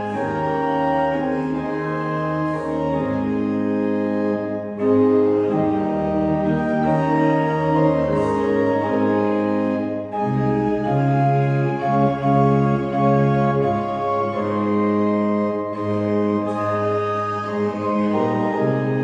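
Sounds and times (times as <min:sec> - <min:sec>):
organ bass line: 0:00.0 - 0:19.0
pipe organ chords: 0:00.0 - 0:19.0.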